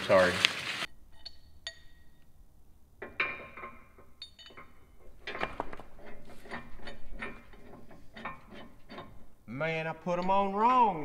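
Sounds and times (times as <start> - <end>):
metal shackle clinking: 0.9 - 11.0.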